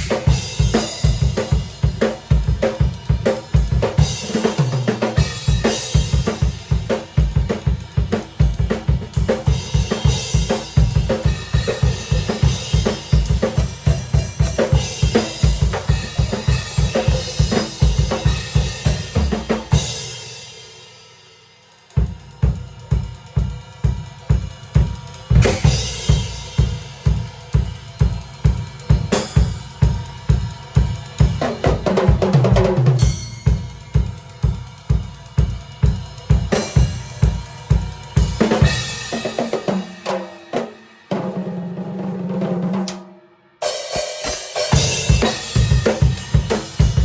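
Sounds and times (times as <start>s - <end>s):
bass drum and snare beat: 0.0s - 20.1s, 22.0s - 40.3s, 44.5s - 47.0s.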